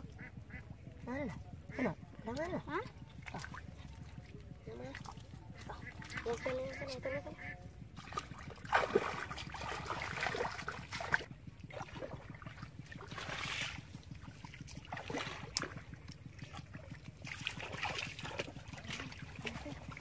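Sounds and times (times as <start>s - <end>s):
muddy water sloshing and splashing: 0.0s - 20.0s
steady low rumble: 0.0s - 20.0s.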